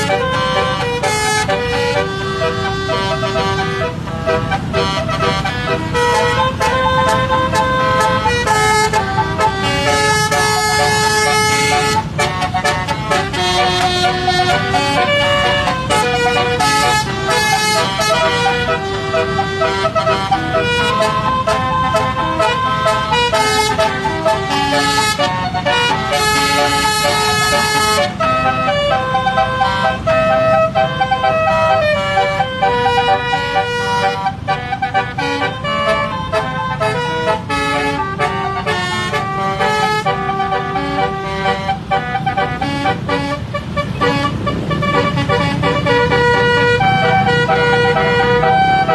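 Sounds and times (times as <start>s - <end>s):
vehicle horn playing melody: 0.0s - 48.9s.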